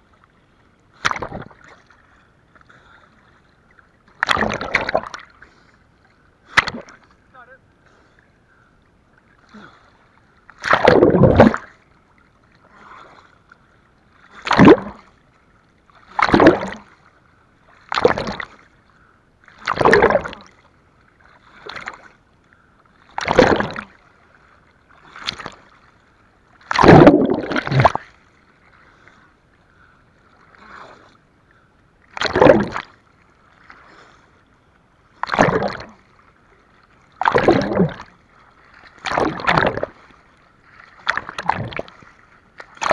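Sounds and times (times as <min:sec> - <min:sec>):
seawater splashing: 0:00.0 - 0:42.9.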